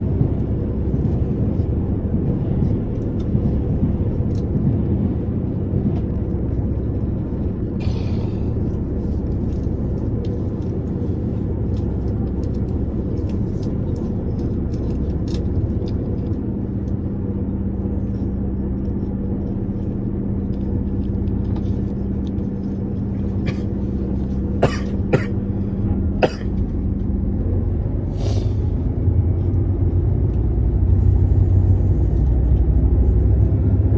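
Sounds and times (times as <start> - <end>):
diesel railcar low rumble: 0.0 - 33.9
steady hum: 0.0 - 33.9.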